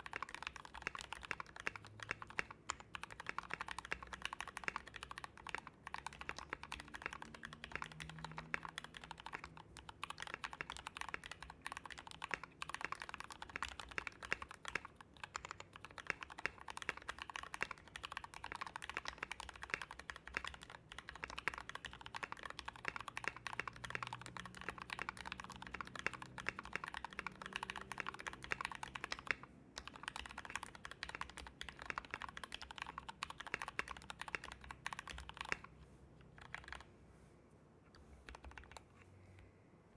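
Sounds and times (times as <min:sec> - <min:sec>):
typing on mechanical keyboard: 0:00.0 - 0:36.9, 0:38.2 - 0:39.0.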